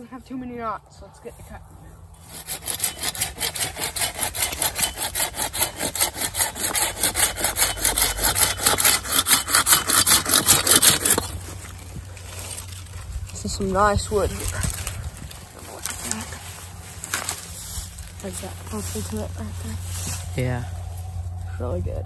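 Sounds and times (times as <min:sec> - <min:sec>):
hand saw cutting branch: 0:02.2 - 0:20.4.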